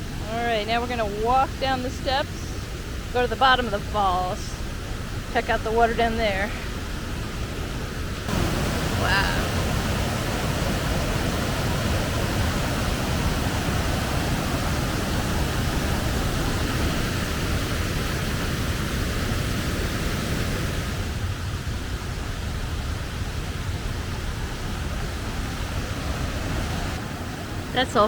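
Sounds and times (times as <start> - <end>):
waterfall rushing: 1.0 - 28.0.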